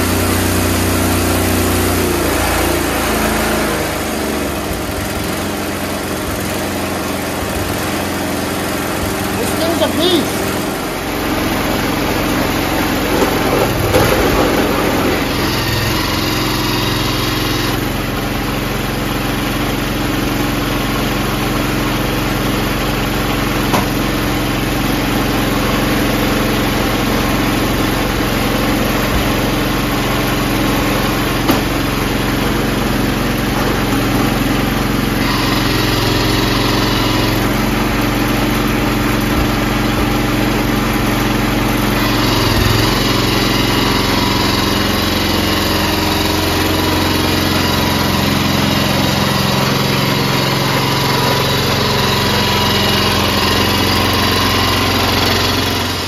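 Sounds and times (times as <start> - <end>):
snowblower engine running: 0.0 - 56.0.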